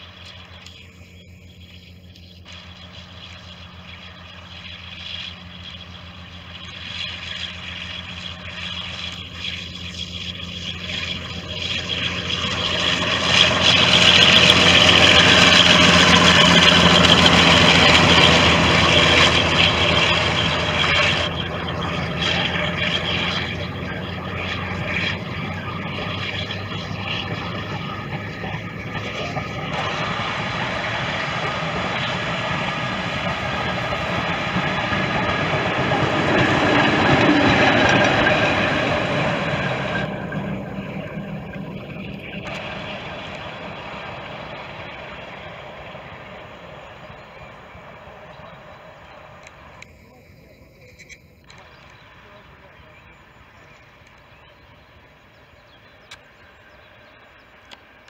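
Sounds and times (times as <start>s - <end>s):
diesel locomotive engine: 0.0s - 58.0s
train coaches rolling past: 0.0s - 58.0s.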